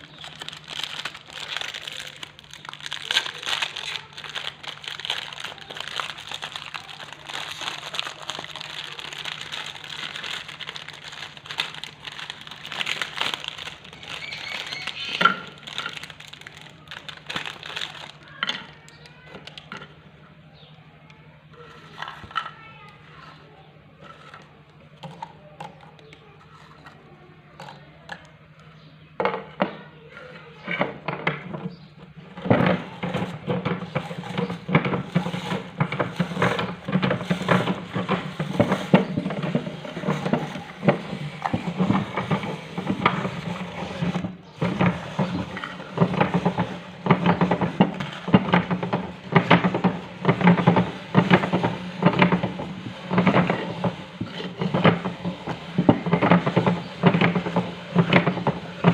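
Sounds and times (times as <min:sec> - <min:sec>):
meat grinder motor humming: 0:00.0 - 0:19.8, 0:31.0 - 0:58.9
crackers crunching: 0:00.0 - 0:20.2, 0:21.5 - 0:23.4, 0:24.0 - 0:29.6, 0:30.2 - 0:58.9.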